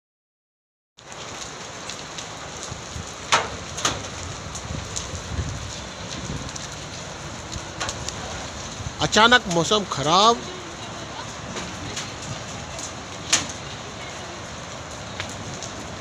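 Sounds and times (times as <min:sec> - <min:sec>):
hail and rain falling: 0:01.0 - 0:16.0
hailstones clicking on hard surfaces: 0:01.0 - 0:16.0.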